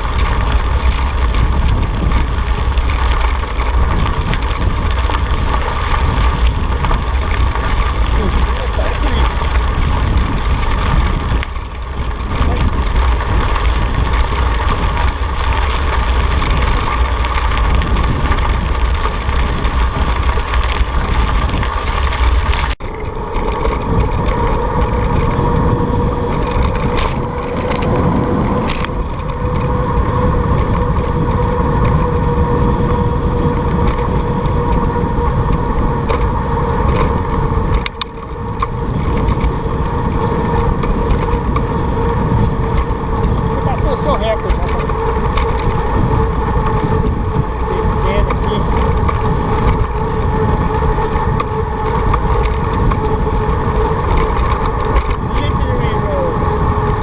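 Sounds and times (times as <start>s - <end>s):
road noise from bike: 0.0s - 57.0s
wind over microphone: 0.0s - 57.0s.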